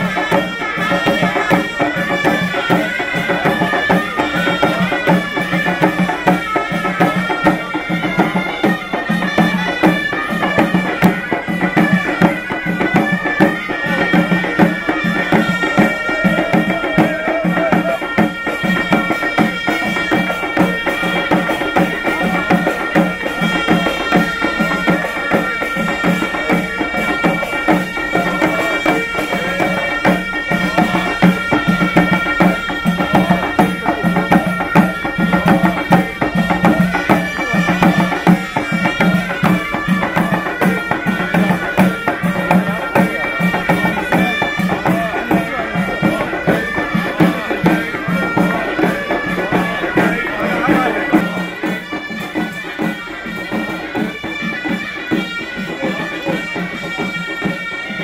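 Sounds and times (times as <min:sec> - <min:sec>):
hand drums beating: 0:00.0 - 0:58.0
reed wind instruments: 0:00.0 - 0:58.0.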